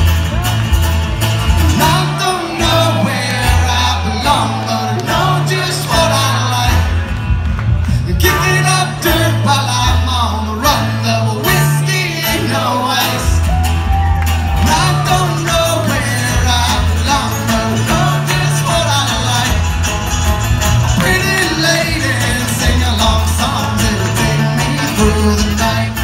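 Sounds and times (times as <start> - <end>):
banjo: 0.0 - 26.0
cello bass line: 0.0 - 26.0
strummed acoustic guitar: 0.0 - 26.0.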